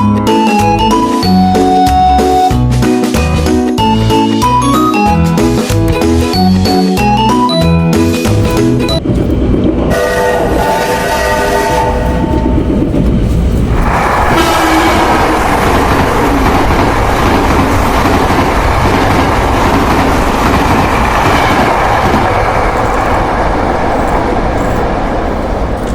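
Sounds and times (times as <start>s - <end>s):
train wheels on rails: 0.0s - 25.9s.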